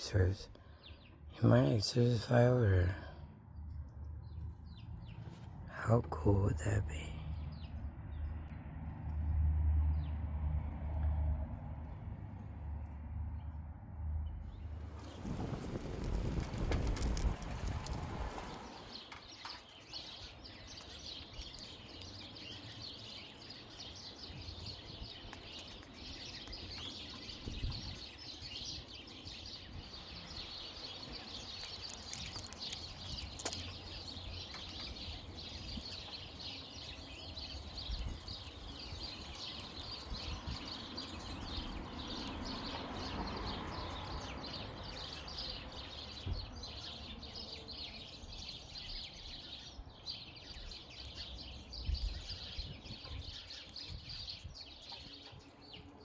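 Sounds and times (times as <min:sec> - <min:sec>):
small birds chirping: 0:00.0 - 0:09.3, 0:11.8 - 0:56.0.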